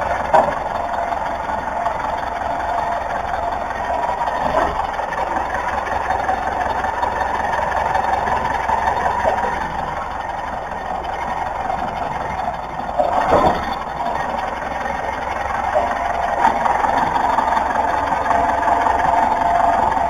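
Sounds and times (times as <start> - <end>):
car running with steady hum: 0.0 - 20.0.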